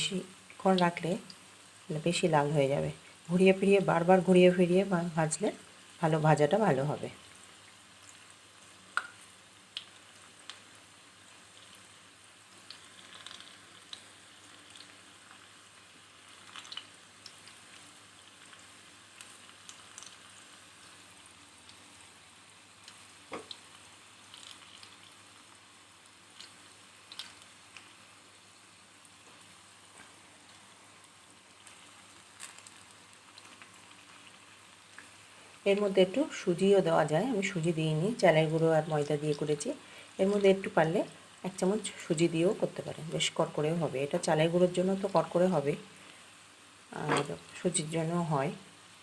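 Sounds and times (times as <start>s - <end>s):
frying in hot oil sizzling: 0.0s - 49.0s.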